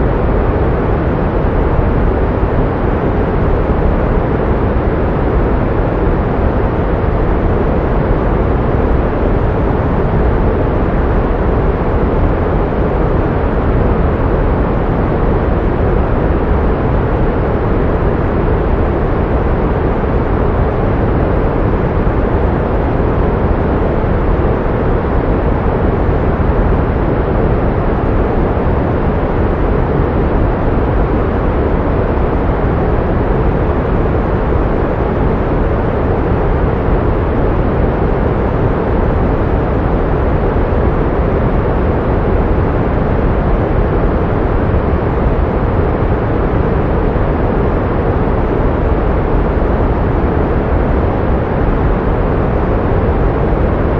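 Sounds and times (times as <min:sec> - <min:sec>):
pink noise hiss: 0:00.0 - 0:53.9.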